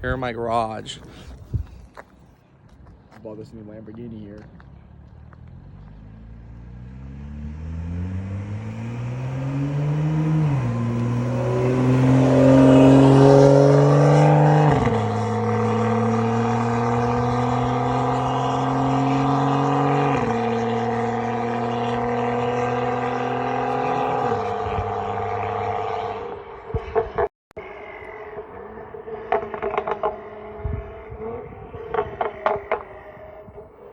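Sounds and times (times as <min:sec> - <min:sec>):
car engine accelerating hard: 0:04.9 - 0:33.9.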